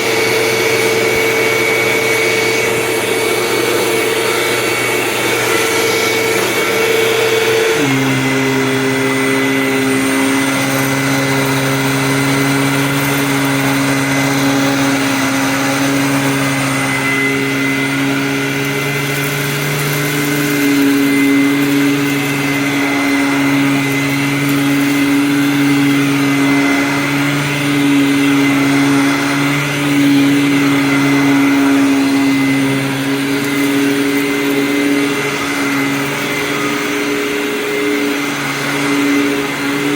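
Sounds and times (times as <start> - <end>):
vacuum cleaner hum and whine: 0.0 - 39.9.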